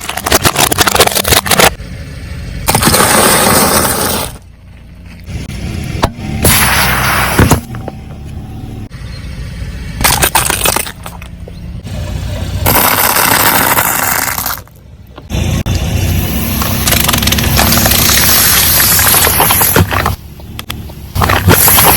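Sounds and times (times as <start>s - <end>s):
car tyres crushing objects: 0.0s - 8.4s, 10.0s - 21.9s.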